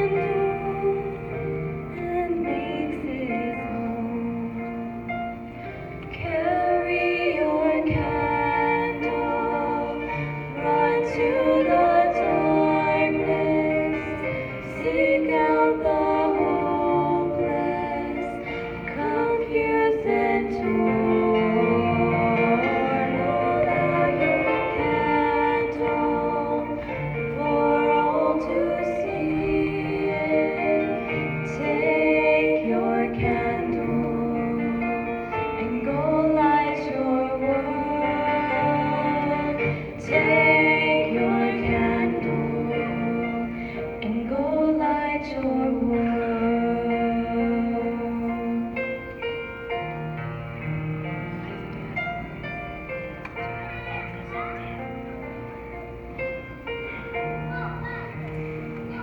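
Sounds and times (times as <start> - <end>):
woman singing lead: 0.0 - 5.1, 6.0 - 49.2
choir singing: 0.0 - 59.0.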